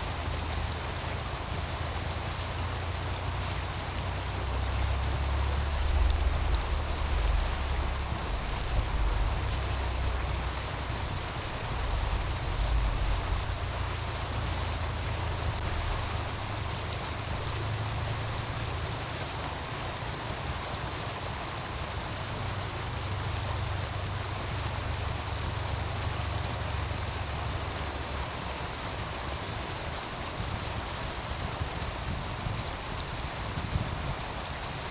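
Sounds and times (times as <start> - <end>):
stream rushing: 0.0 - 34.9
wind rumble on microphone: 0.0 - 34.9
wood fire crackling and popping: 0.0 - 34.9.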